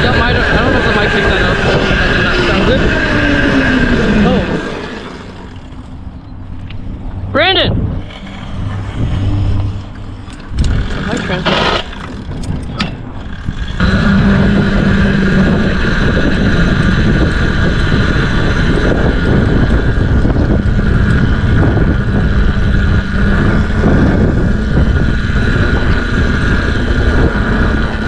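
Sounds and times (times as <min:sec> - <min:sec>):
mini bike engine running: 0:00.0 - 0:06.0, 0:08.1 - 0:28.0
wind buffeting microphone: 0:00.0 - 0:28.0.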